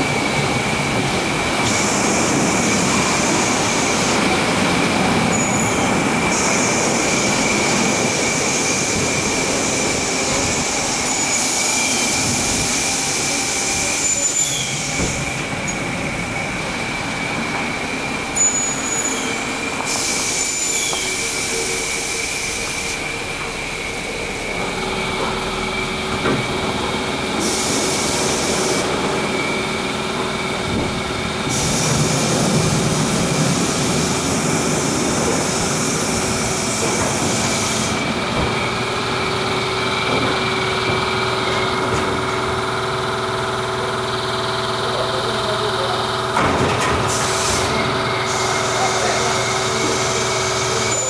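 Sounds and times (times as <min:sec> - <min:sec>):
machinery humming: 0:00.0 - 0:51.0.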